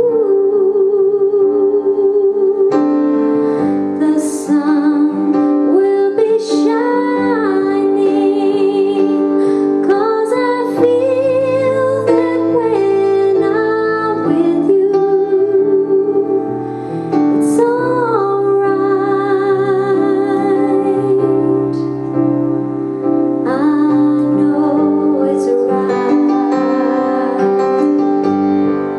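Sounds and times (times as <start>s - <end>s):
woman singing slow song: 0.0s - 3.2s, 3.8s - 16.7s, 17.3s - 22.2s, 23.4s - 27.9s
piano accompaniment: 0.0s - 28.9s.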